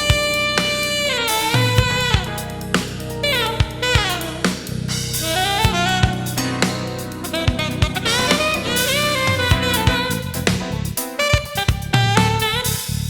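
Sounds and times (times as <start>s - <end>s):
bass line: 0.0s - 13.0s
drum kit groove: 0.0s - 13.0s
lead melody with bending notes: 0.0s - 13.0s.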